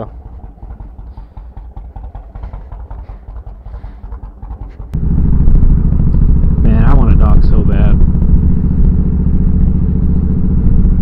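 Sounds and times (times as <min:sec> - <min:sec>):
motorcycle engine revving and pulling away: 0:00.0 - 0:11.0.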